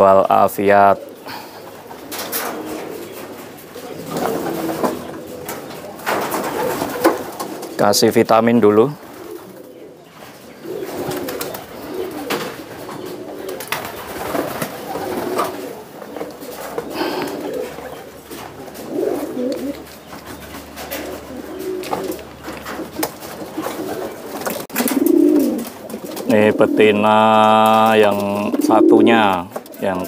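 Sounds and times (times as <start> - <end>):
pigeons cooing: 0.0 - 30.0.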